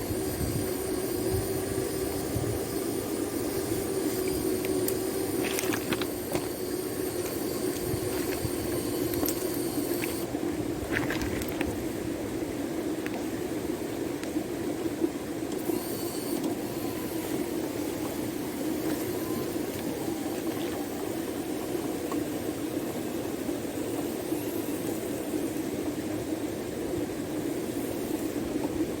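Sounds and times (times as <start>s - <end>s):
faint thin whine: 0.0s - 14.0s, 15.5s - 29.0s.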